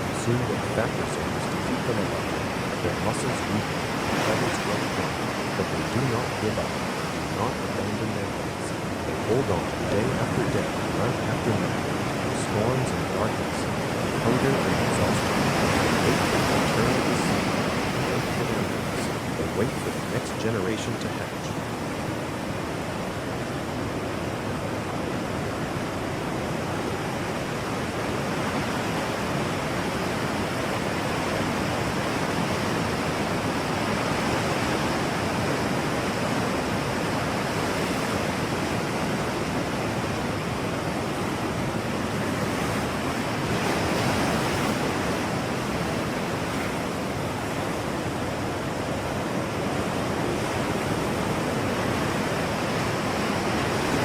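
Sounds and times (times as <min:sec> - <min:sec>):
steady rushing wind or surf: 0:00.0 - 0:54.0.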